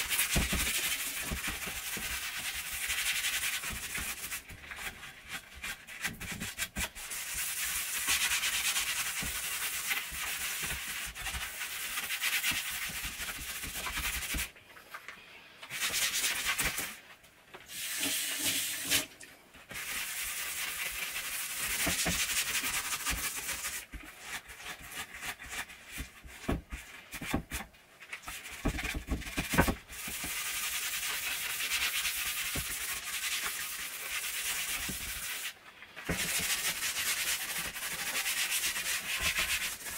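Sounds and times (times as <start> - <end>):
sponge scrubbing surfaces: 0.0 - 14.5, 17.7 - 39.9.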